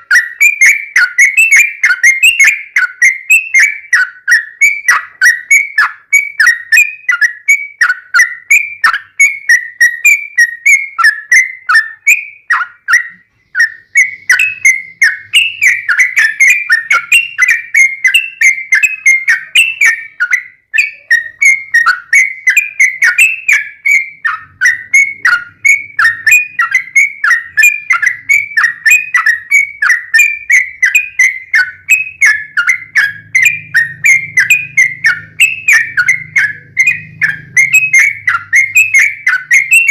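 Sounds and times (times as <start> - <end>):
bird singing chirped notes: 0.0 - 39.9.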